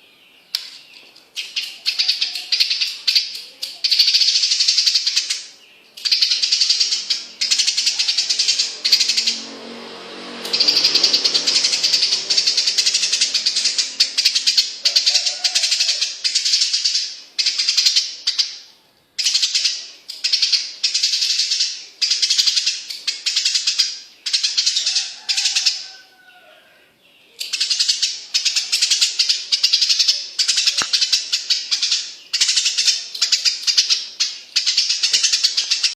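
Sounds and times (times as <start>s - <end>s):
sparrow chirping rapidly: 1.3s - 9.5s, 10.4s - 18.6s, 19.2s - 25.8s, 27.4s - 35.9s.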